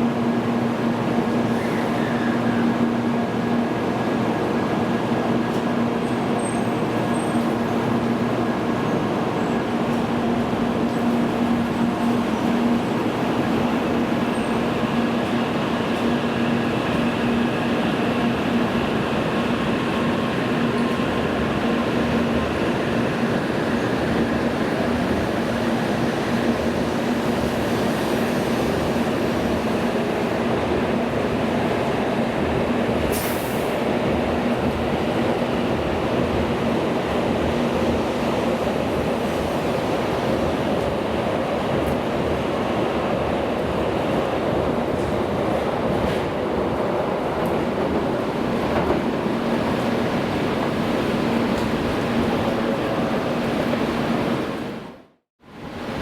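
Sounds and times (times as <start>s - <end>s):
train humming at platform: 0.0s - 56.0s.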